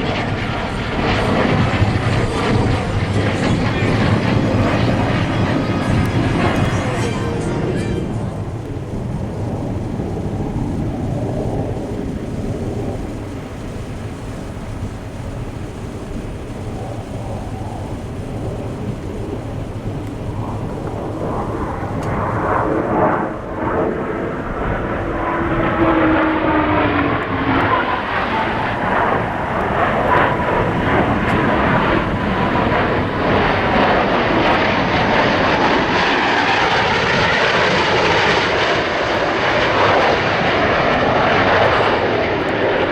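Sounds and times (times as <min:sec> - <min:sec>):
aircraft engine noise: 0:00.0 - 0:42.9.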